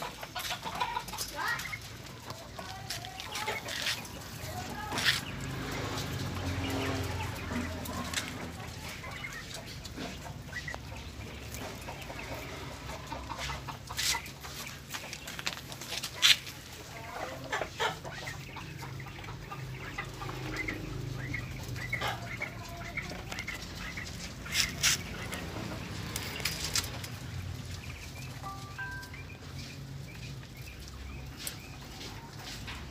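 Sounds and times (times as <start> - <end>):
chicks cheeping and clucking: 0.0 - 32.9.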